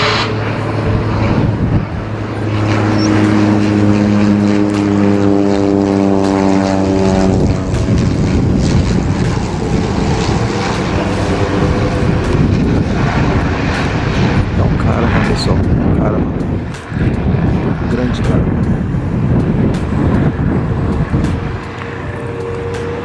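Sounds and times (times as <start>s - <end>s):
turboprop aircraft flying past: 0.0s - 23.0s.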